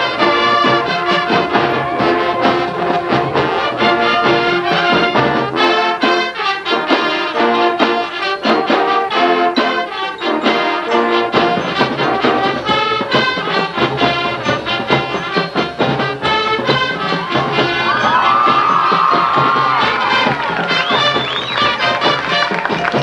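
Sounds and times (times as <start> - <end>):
marching band brass playing: 0.0 - 23.0
marching drums: 0.0 - 23.0.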